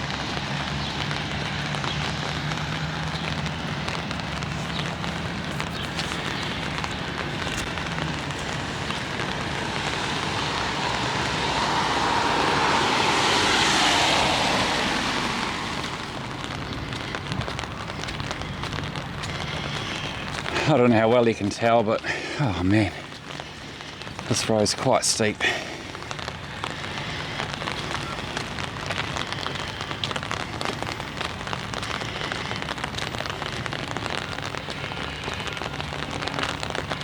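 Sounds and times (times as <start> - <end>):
rain pattering on an umbrella: 0.0 - 37.0
vehicle tyre hiss on wet road: 0.0 - 37.0.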